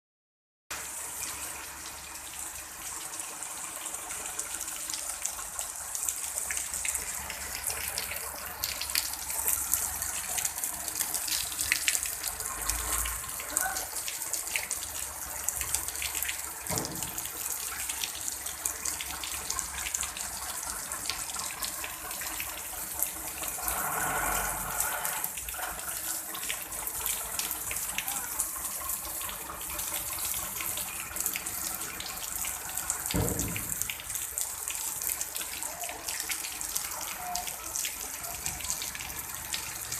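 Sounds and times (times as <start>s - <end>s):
rain falling steadily: 0.7s - 39.9s.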